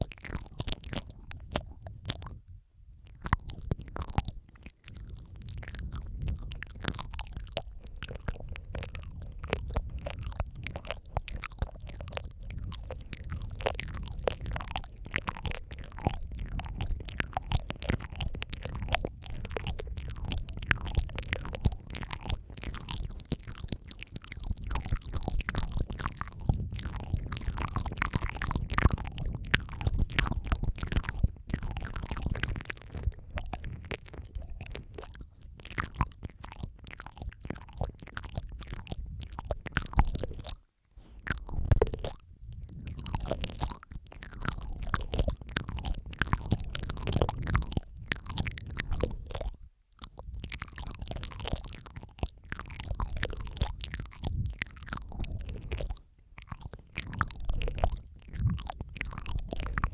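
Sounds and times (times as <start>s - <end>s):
wet mouth clicks and smacks: 0.0s - 59.9s.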